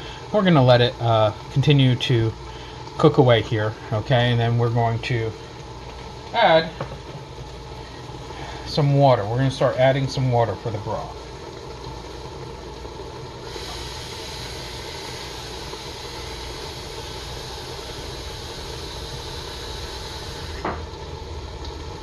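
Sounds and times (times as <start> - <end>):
food sizzling in a pot: 0.0 - 22.0
low steady hum: 0.0 - 22.0.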